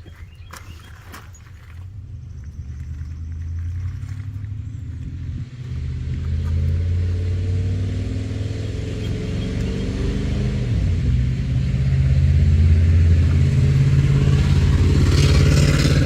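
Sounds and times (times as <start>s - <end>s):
vehicle engine running: 1.6s - 16.0s.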